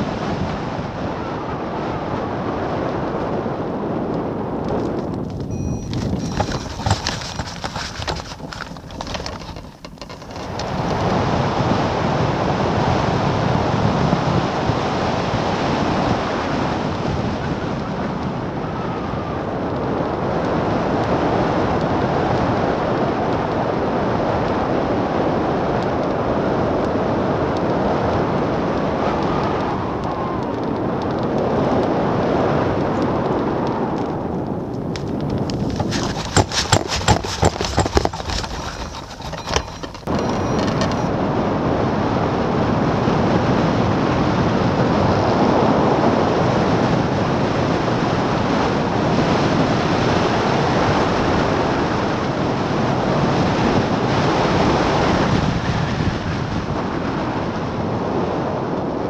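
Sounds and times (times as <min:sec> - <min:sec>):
wind rushing on microphone: 0:00.0 - 0:59.0.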